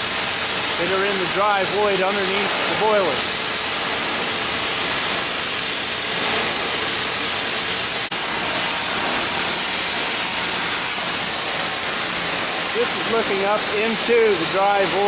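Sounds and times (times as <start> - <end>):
cutting torches hissing: 0.0 - 15.0.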